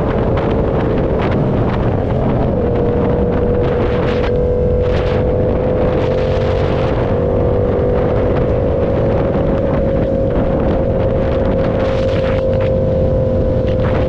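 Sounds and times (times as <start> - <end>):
motorcycle engine cruising: 0.0 - 14.0
wind rushing over microphone: 0.0 - 14.0.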